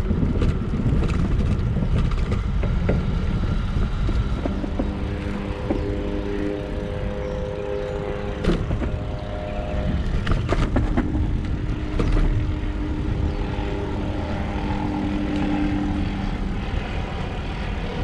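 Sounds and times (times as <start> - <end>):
electric motor hum: 0.0 - 18.0
wind and road rumble: 0.0 - 18.0.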